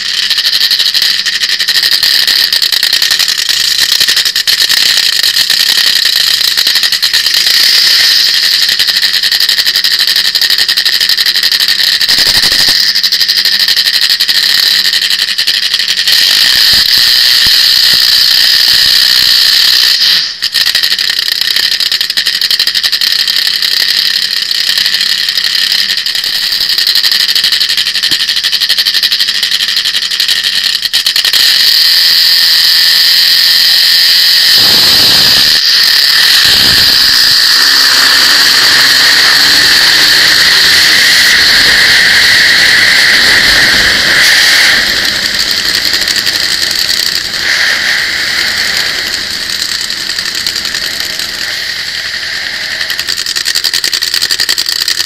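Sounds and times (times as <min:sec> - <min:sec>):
drag motorcycle engine revving: 0:00.0 - 0:55.0.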